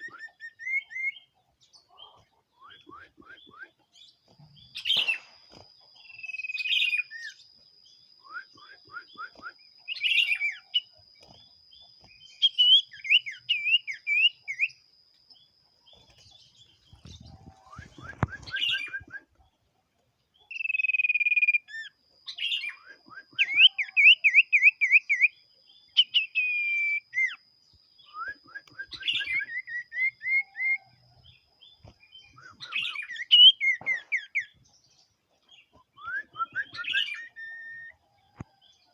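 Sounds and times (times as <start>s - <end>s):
bird whistles and trills: 0.0s - 7.4s, 8.0s - 14.8s, 15.9s - 19.5s, 20.5s - 34.7s, 35.5s - 38.5s.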